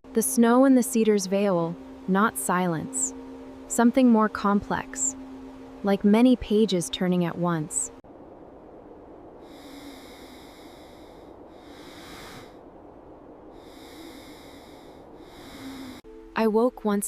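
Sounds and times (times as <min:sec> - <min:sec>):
wind and falling snow hiss: 0:00.1 - 0:16.3.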